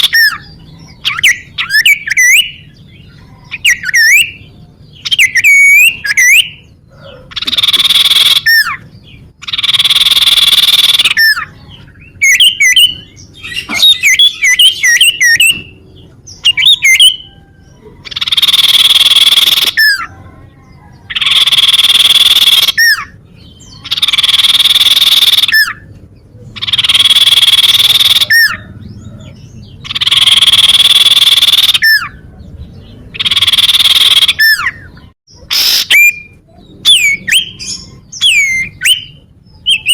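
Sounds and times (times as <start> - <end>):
bird buzzy calls: 0.0 - 39.9
bird twittering chirps: 0.0 - 39.9.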